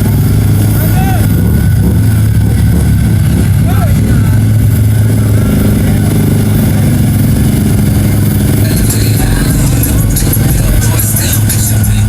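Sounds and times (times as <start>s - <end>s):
truck engine droning under load: 0.0s - 12.0s.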